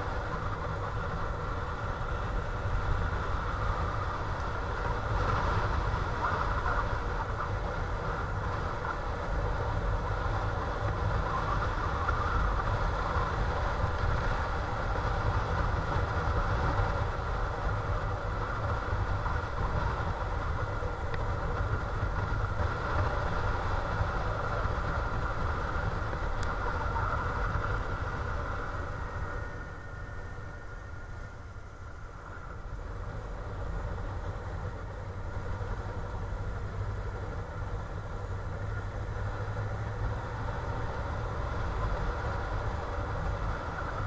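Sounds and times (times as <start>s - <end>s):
motorcycle engine running: 0.0s - 30.8s, 32.0s - 44.0s
wind rumble on microphone: 0.0s - 44.0s.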